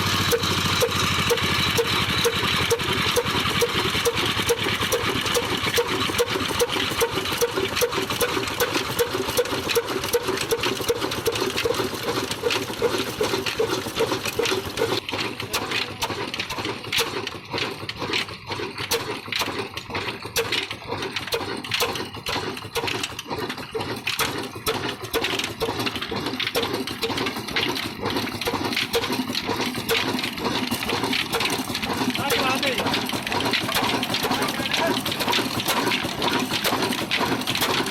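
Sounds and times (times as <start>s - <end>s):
diesel engine knocking: 0.0s - 37.9s.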